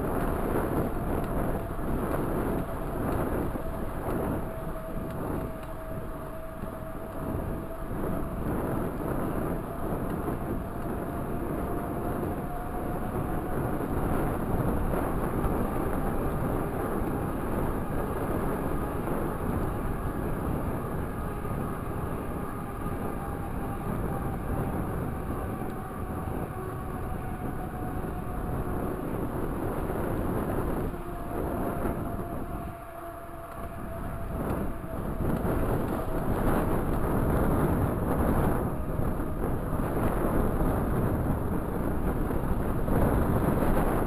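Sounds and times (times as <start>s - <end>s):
bike tyres rolling on asphalt: 0.0s - 44.0s
faint tyre hum: 0.0s - 44.0s
wind buffeting microphone: 0.0s - 44.0s.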